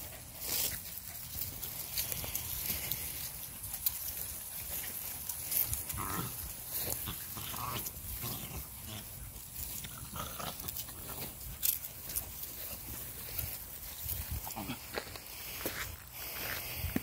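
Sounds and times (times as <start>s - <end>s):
dogs snuffling in grass: 0.0s - 17.0s.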